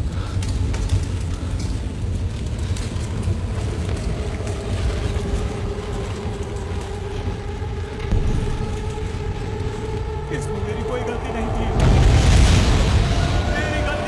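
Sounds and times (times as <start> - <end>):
car fire rumbling: 0.0 - 14.0
droning tone with overtones: 2.1 - 14.0.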